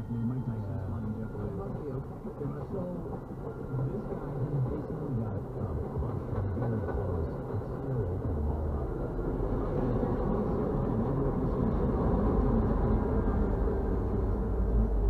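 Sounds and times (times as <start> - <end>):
diesel locomotive: 0.0 - 15.0
train wheels rumbling on rails: 0.0 - 15.0.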